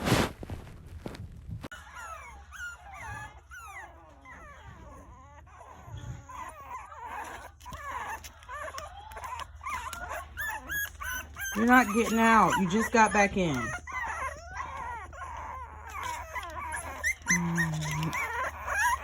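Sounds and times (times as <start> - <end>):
puppies whimpering: 1.7 - 19.0.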